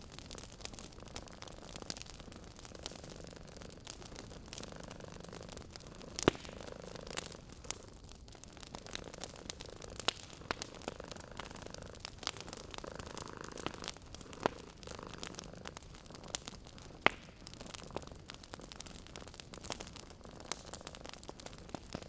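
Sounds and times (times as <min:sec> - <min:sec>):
wood fire crackling: 0:00.0 - 0:22.0
cat purring: 0:00.7 - 0:22.0.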